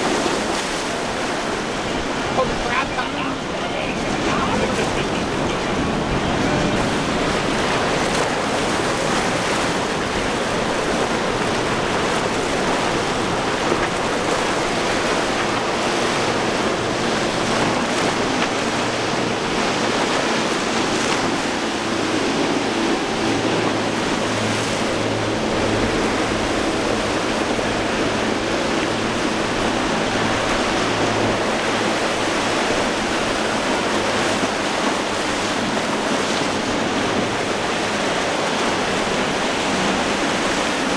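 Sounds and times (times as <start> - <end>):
outboard engines humming: 0.0 - 40.9
waves breaking: 0.0 - 40.9
wind on microphone: 0.0 - 40.9.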